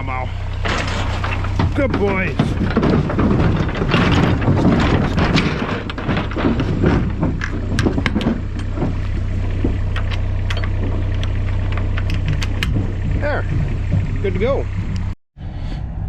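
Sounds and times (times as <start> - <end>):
cattle clattering in a trailer: 0.0 - 15.2
low engine hum: 0.0 - 16.0
sharp knocks: 0.6 - 15.2.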